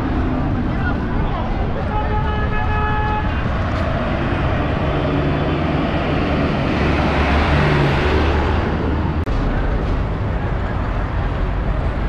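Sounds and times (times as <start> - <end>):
street traffic: 0.0 - 12.0
truck engine drone: 0.0 - 12.0.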